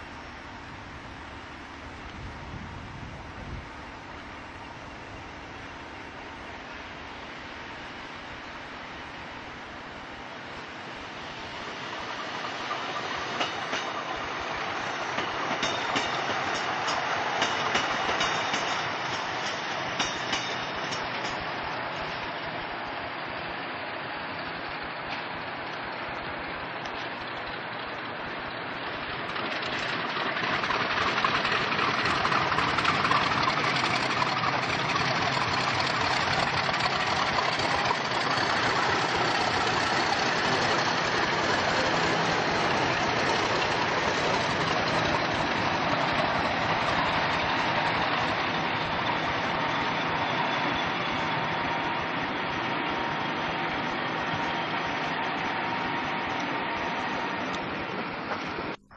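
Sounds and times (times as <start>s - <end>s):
diesel locomotive engine running: 0.0s - 58.9s.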